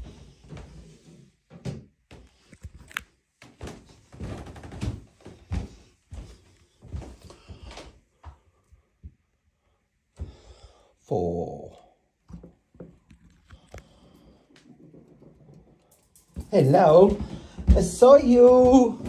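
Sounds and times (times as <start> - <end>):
footsteps on carpeted stairs: 0.0 - 9.4, 10.2 - 10.6, 12.3 - 19.0.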